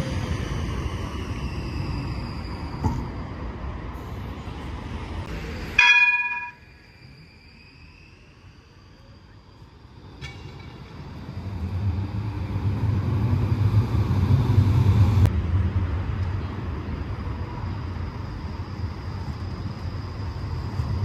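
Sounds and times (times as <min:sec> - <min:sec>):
distant approaching tram: 0:00.0 - 0:21.0
street traffic rumble: 0:00.0 - 0:21.0
tram rolling past on rails: 0:00.0 - 0:21.0.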